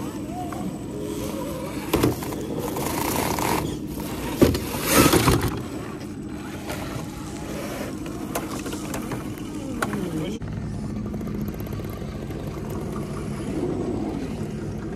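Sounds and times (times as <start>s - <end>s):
electric motor and gears whining: 0.0s - 14.9s.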